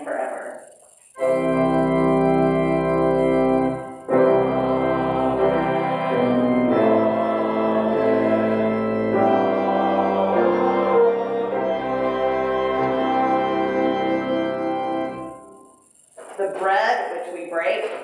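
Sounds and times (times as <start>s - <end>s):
church organ chords: 0.9s - 16.3s.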